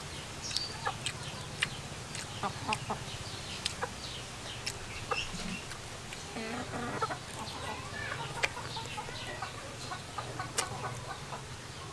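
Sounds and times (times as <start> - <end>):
chickens clucking: 0.4 - 11.9.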